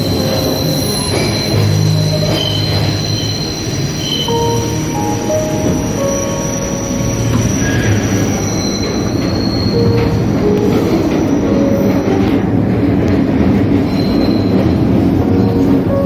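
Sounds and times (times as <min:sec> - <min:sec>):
subway car rumble: 0:00.0 - 0:16.0
wheels squealing on rails: 0:00.0 - 0:16.0.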